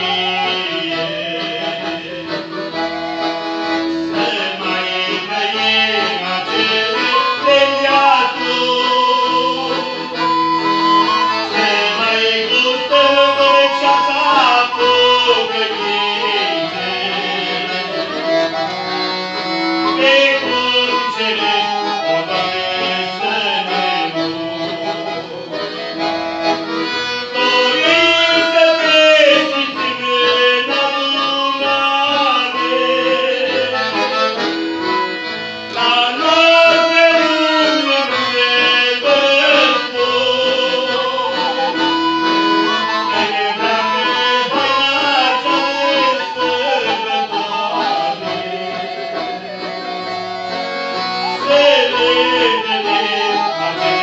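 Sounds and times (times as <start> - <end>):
accordion playing a tune: 0.0 - 54.0.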